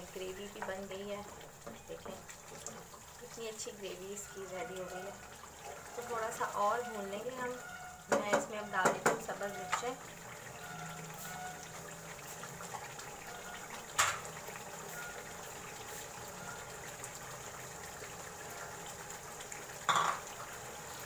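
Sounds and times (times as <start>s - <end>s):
gravy bubbling and sizzling: 0.0s - 21.0s.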